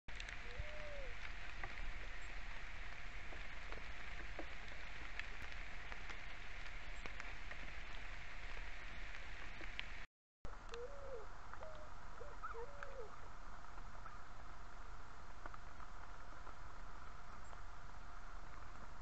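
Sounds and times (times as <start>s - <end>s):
steady rain falling: 0.1s - 19.0s.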